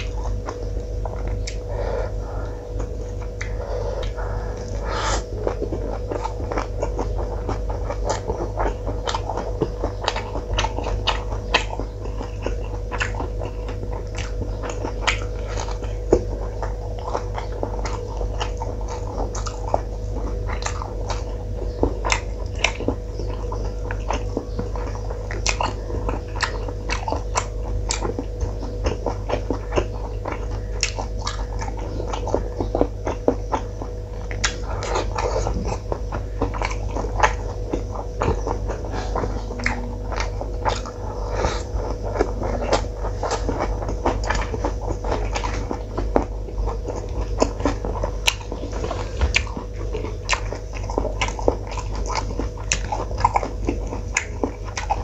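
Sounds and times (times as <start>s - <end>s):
fingers clicking in wet food: 0.0s - 1.7s, 2.4s - 4.8s, 5.4s - 55.0s
man chewing and lip-smacking: 0.0s - 55.0s
steady low hum: 0.0s - 55.0s.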